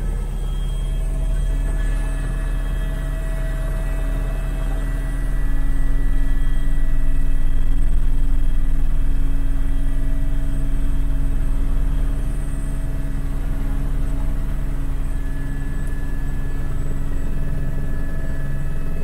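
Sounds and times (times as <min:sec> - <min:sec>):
helicopter rotor and engine drone: 0:00.0 - 0:19.0
turbine high whine: 0:00.0 - 0:19.0.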